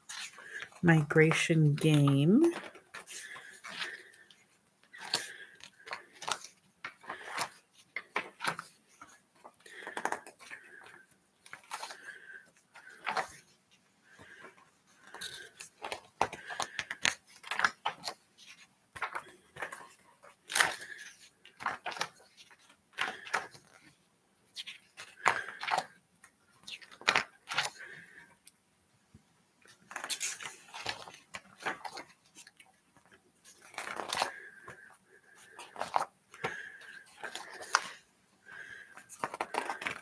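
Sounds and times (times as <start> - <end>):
book pages turning: 0.1 - 13.6, 14.2 - 28.4, 29.6 - 40.0.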